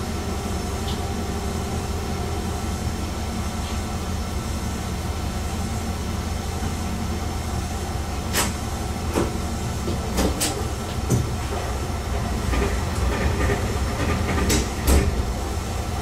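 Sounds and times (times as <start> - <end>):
diesel railcar rumble: 0.0 - 16.0.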